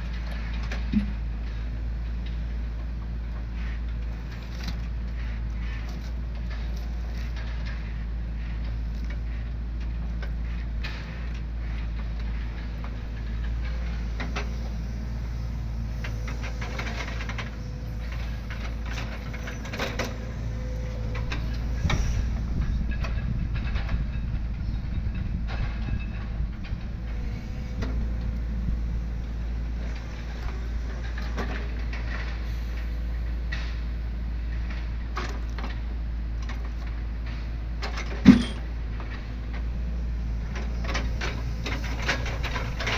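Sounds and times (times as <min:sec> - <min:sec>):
excavator engine running: 0:00.0 - 0:42.9.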